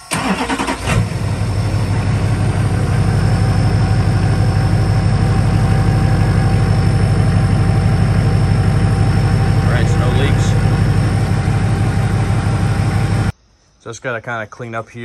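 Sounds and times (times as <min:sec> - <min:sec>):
diesel engine idling: 0:00.0 - 0:13.3.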